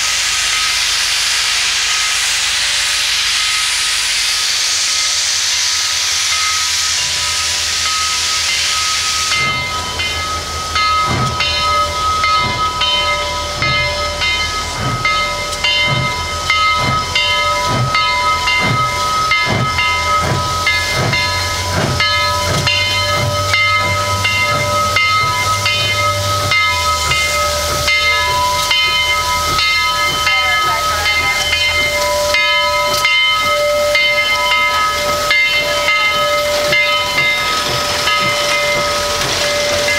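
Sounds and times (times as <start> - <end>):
locomotive bell ringing: 0.0 - 4.2, 4.9 - 39.9
steam hiss: 0.0 - 39.9
steam locomotive exhaust chuffs: 0.0 - 39.9.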